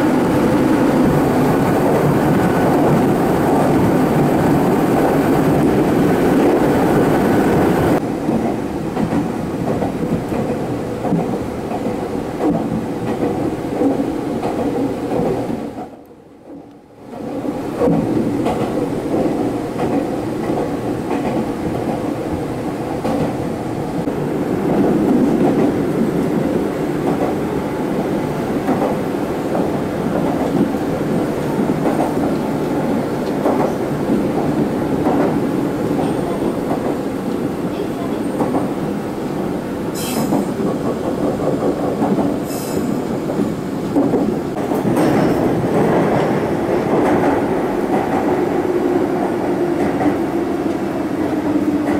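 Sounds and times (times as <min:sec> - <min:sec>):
train wheels rumbling on rail: 0:00.0 - 0:51.9
sharp clicks of train wheels: 0:00.2 - 0:23.5, 0:24.6 - 0:37.5, 0:39.8 - 0:51.9.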